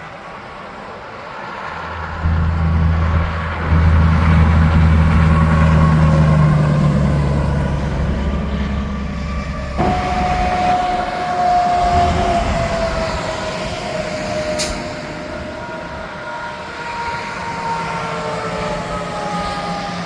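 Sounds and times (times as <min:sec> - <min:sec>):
trucks passing on highway: 0:00.0 - 0:20.0.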